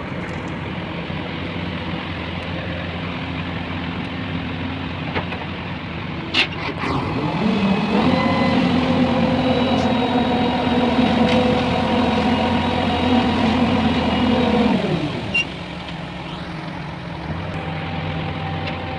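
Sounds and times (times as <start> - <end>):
heavy vehicle engine running: 0.0 - 18.9.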